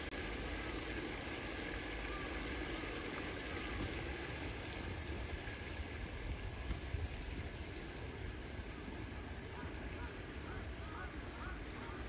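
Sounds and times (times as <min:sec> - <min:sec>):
even outdoor hiss: 0:00.0 - 0:12.0.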